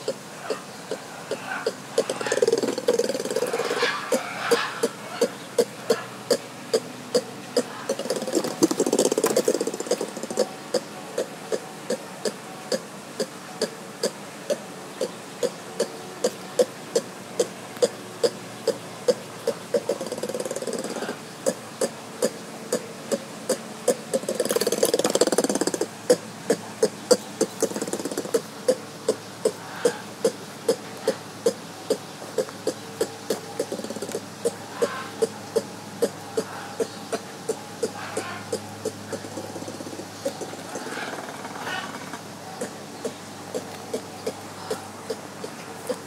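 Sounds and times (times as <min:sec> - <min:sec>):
lemur clicking calls: 0:00.0 - 0:46.0
rough animal calls: 0:00.0 - 0:46.0.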